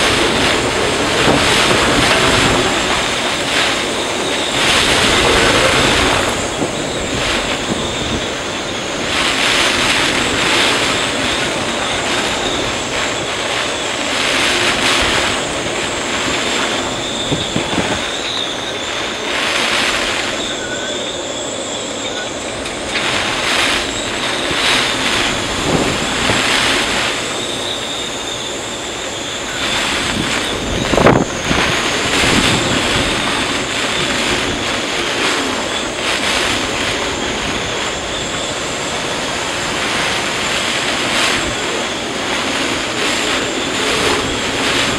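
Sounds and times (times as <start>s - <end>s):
surf breaking on breakwater: 0.0s - 21.1s, 22.1s - 44.9s
wind gusts buffeting microphone: 0.0s - 44.9s.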